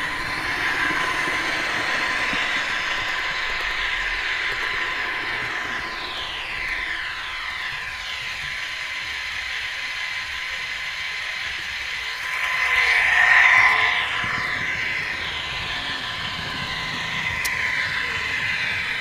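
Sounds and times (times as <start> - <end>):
model train motor whine: 0.0 - 19.0
wheels rattling on rails: 0.0 - 19.0.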